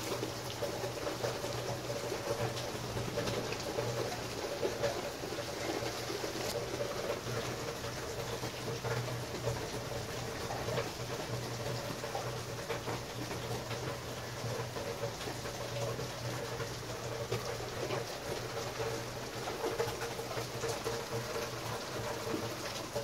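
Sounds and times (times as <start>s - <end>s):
steady rain falling: 0.0s - 23.0s
water drips and splashes: 0.0s - 23.0s.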